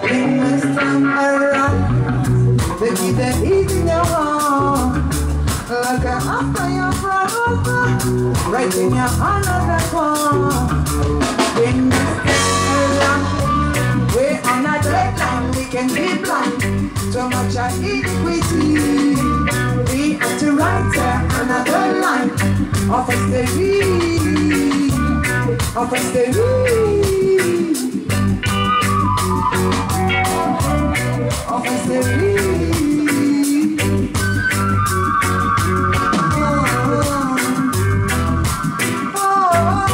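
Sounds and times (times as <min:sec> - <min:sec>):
woman singing lead: 0:00.0 - 0:34.6, 0:36.1 - 0:39.9
electric guitar: 0:00.0 - 0:39.9
reggae band playing: 0:00.0 - 0:39.9.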